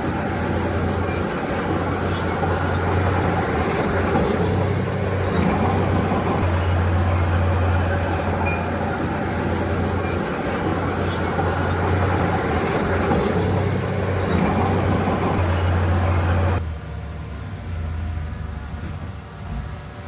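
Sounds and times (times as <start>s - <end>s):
heavy diesel machinery engine drone: 0.0s - 20.0s.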